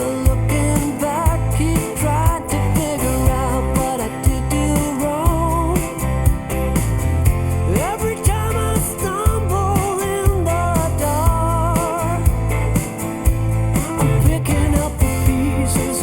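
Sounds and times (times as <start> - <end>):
pop-rock song: 0.0 - 16.0.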